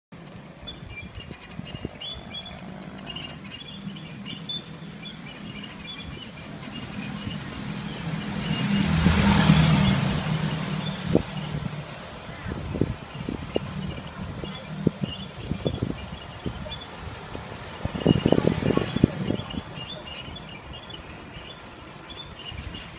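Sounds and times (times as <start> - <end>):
low street hum: 0.1 - 22.9
birds chirping: 0.2 - 22.9
motorcycle passing: 0.2 - 22.9.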